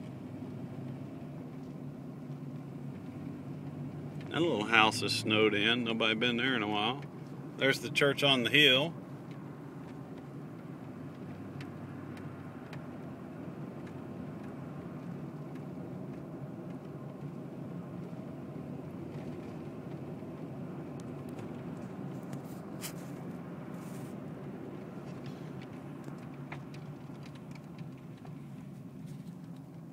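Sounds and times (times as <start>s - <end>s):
tyre rumble on snowy road: 0.0s - 29.9s
vehicle engine hum: 0.0s - 29.9s.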